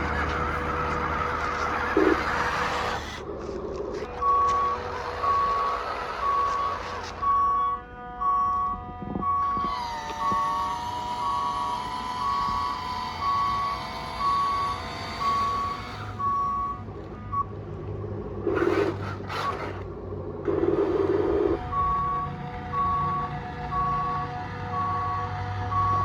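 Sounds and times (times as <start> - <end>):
reversing alarm beeping: 0.0 - 17.8, 20.4 - 26.0
low motor hum: 0.0 - 26.0.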